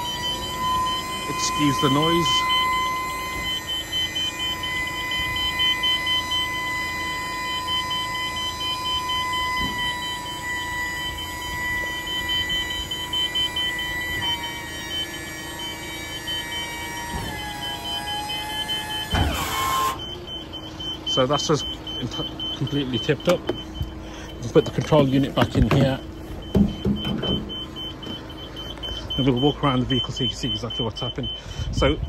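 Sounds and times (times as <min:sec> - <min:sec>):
hydraulic pump motor whining: 0:00.0 - 0:32.0
rapid high-pitched beeping: 0:00.0 - 0:32.0.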